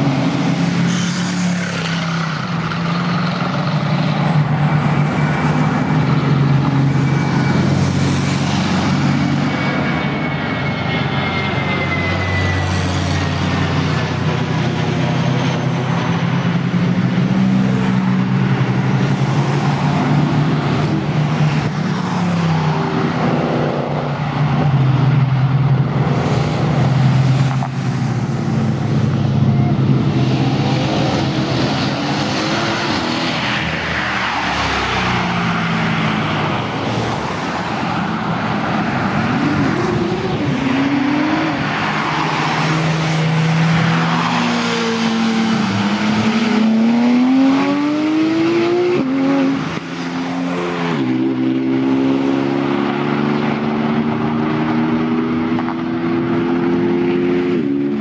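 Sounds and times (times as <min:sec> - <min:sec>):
car engines revving: 0:00.0 - 0:58.0
cars driving past: 0:00.0 - 0:58.0.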